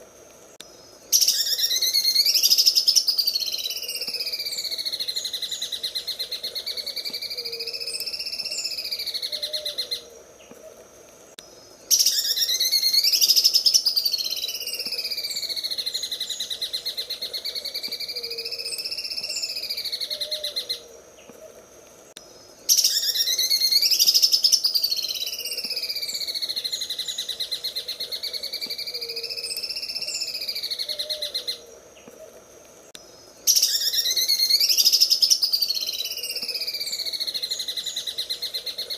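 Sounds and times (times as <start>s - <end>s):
bird buzzing rattle song: 0.0s - 38.9s.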